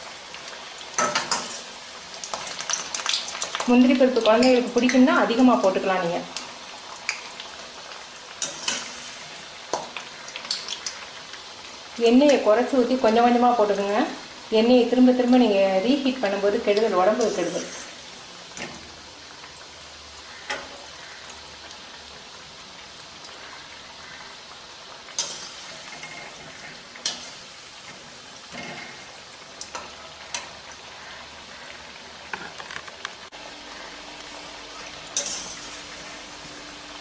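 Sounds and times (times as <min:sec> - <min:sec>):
oil sizzling hiss: 0:00.0 - 0:37.0.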